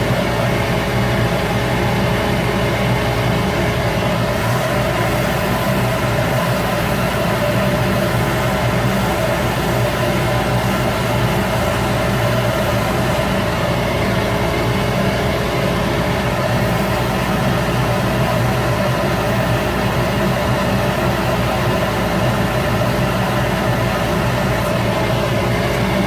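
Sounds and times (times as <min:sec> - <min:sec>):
wood lathe motor humming: 0:04.0 - 0:26.0.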